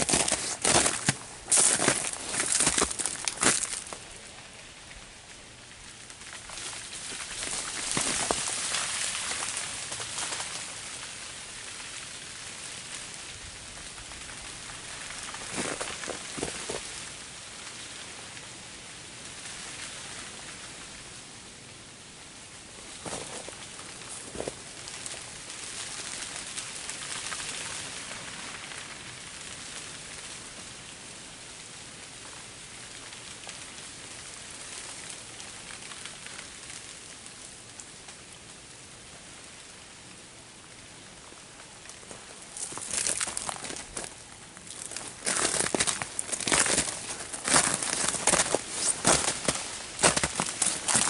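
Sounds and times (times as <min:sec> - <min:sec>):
freezing rain on icy branches: 0:00.0 - 0:51.0.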